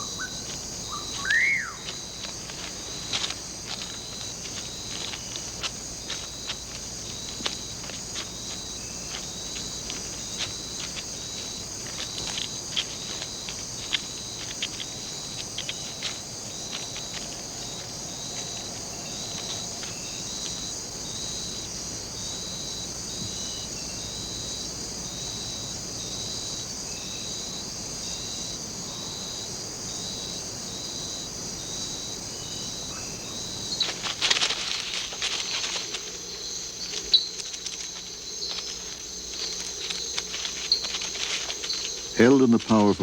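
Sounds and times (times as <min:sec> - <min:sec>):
rustling and crackling in leaves: 0:00.0 - 0:26.6, 0:30.0 - 0:43.0
insect chirp: 0:00.0 - 0:43.0
insect trill: 0:00.0 - 0:43.0.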